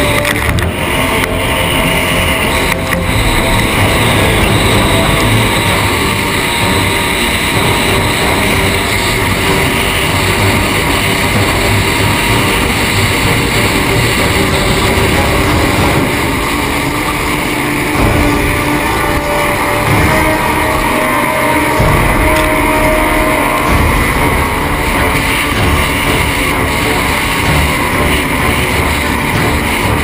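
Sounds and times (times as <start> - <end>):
powerboat engine running flat out: 0.0 - 30.0.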